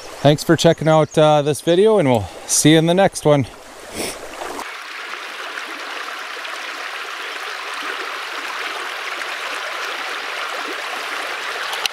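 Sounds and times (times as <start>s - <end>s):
stream rushing over rocks: 2.1s - 11.9s.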